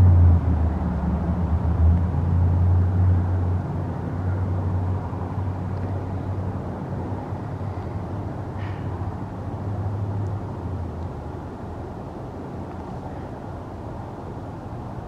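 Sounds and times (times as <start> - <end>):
passing train rumble: 0.0 - 15.0.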